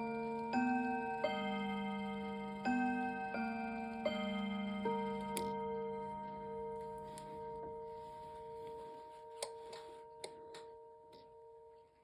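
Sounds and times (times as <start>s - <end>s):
electric clock chimes ringing: 0.0s - 11.4s.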